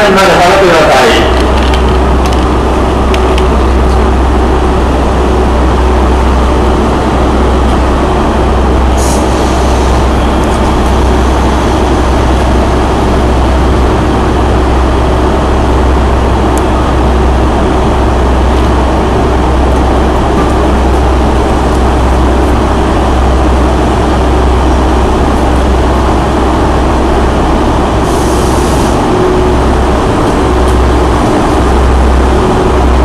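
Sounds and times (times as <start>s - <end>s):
electric trains humming: 0.0s - 33.0s.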